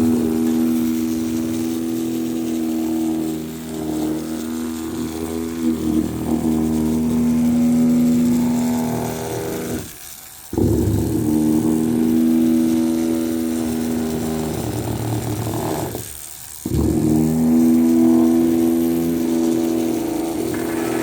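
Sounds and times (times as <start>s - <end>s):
toy electric motor humming: 0.0s - 21.0s.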